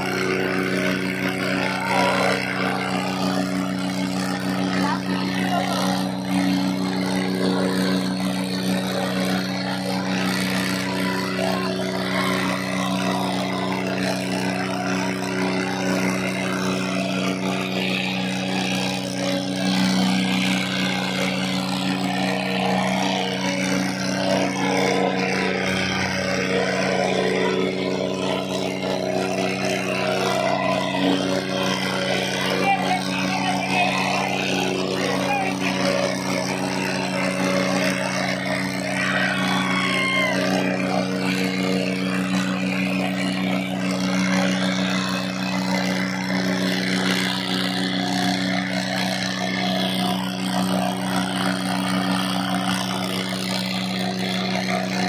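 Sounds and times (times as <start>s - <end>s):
crowd noise: 0.0s - 55.0s
tractor diesel engines running: 0.0s - 55.0s.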